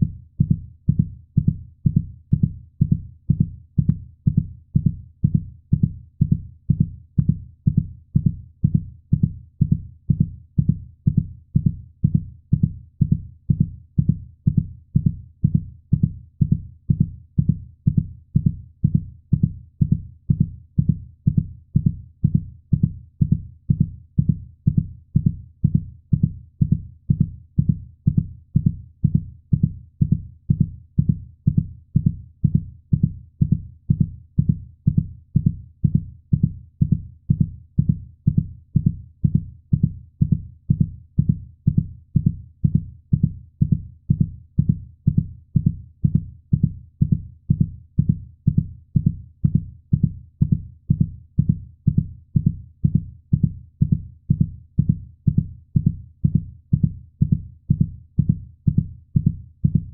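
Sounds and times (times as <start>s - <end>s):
heartbeat thumps: 0.0s - 59.9s.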